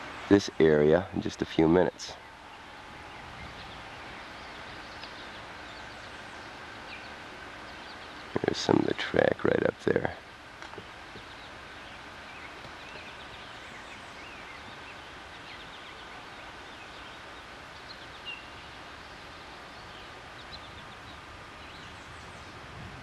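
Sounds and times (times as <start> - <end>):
outdoor background hiss: 0.0 - 23.0
small birds chirping: 0.0 - 23.0.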